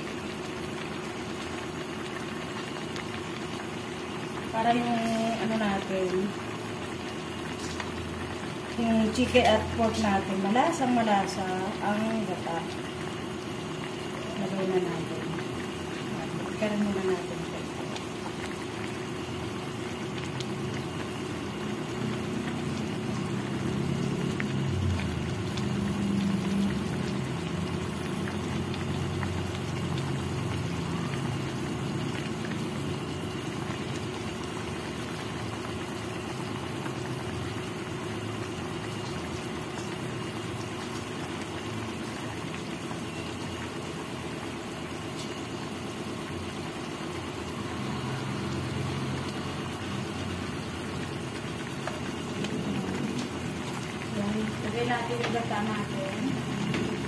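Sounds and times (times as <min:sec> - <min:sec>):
sauce boiling in a wok: 0:00.0 - 0:57.0.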